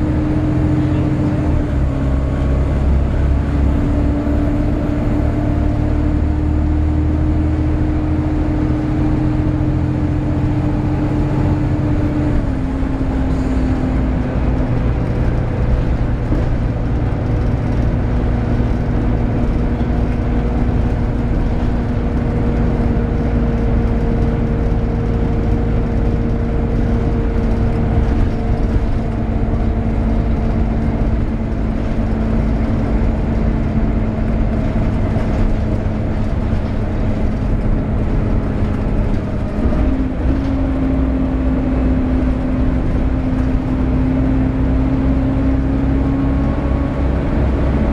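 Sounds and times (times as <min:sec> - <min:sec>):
diesel bus engine rumbling: 0:00.0 - 0:47.9.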